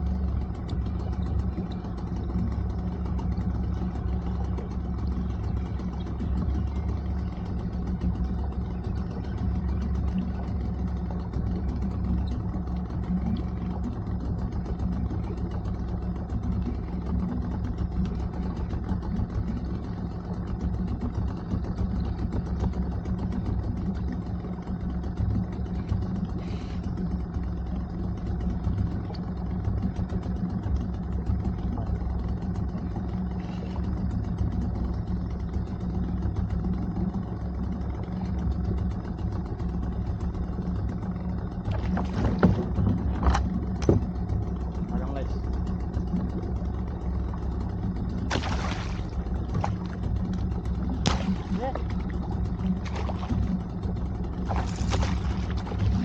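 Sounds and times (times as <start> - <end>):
small boat engine running: 0.0 - 56.0.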